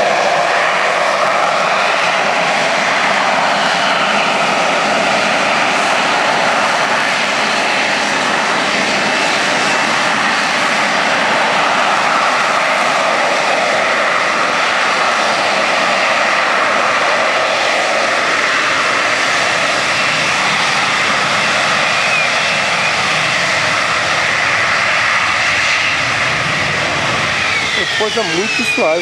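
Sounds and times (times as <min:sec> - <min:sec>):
jet engine roaring with high whine: 0:00.0 - 0:29.0.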